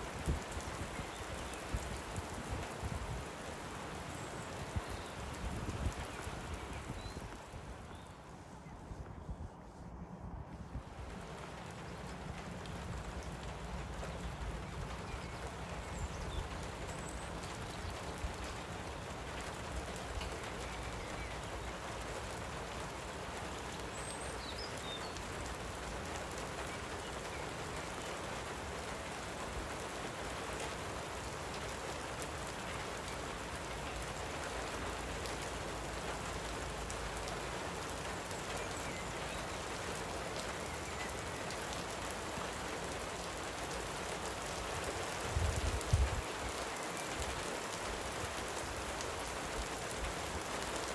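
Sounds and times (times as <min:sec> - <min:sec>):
gentle rain: 0:00.0 - 0:50.9.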